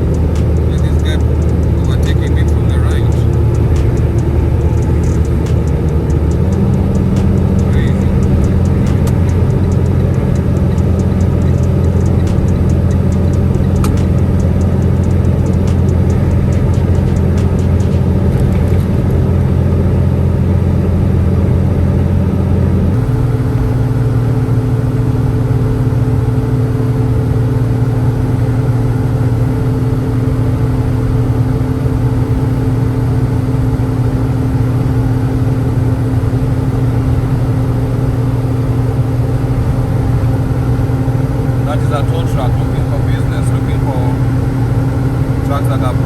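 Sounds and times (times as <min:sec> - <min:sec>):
road noise: 0:00.0 - 0:46.0
truck engine droning: 0:00.0 - 0:46.0.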